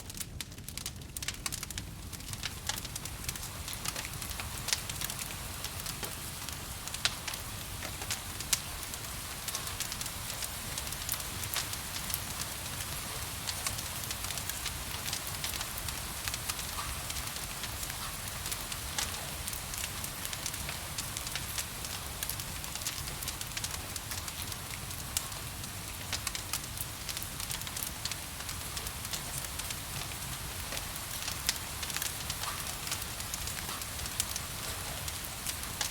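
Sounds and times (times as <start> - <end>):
wood fire crackling: 0.0 - 35.9
rain hiss: 1.9 - 35.9.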